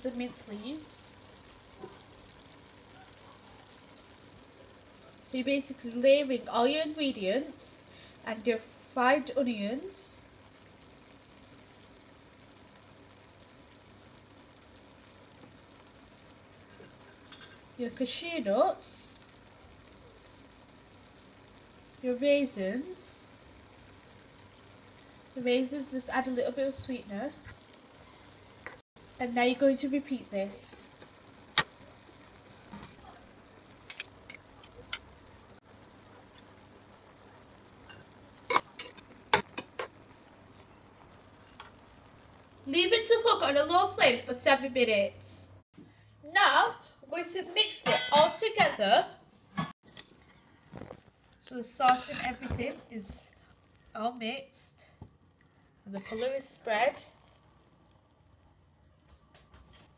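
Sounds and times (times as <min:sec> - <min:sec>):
food sizzling in a pot: 0:00.0 - 0:45.6, 0:46.4 - 0:59.9.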